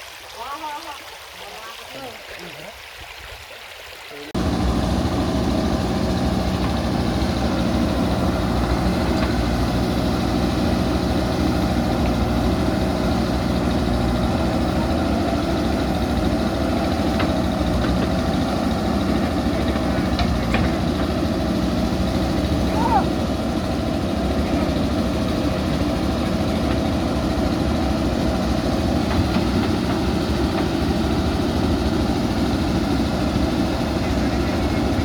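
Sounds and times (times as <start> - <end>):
diesel engine running steadily: 4.4 - 35.0.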